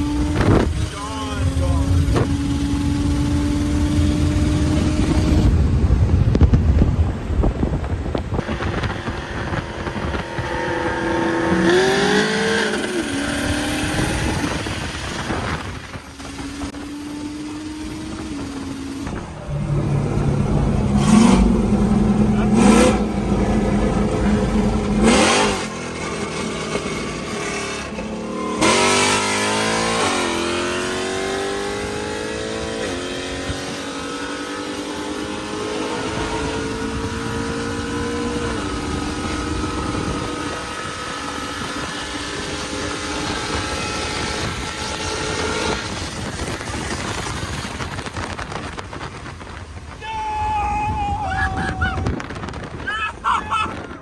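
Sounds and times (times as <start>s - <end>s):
car engine accelerating: 0.0s - 49.4s.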